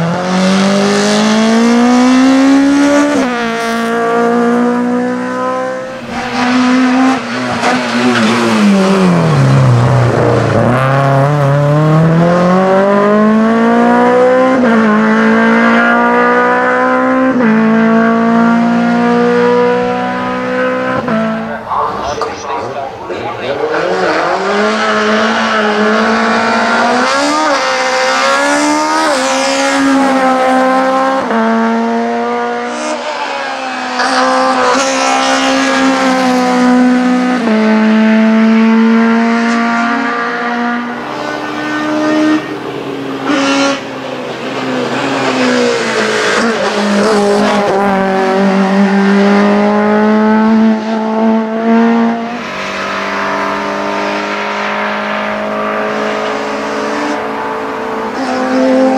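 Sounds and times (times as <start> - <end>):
race car engine accelerating: 0.0 - 58.9.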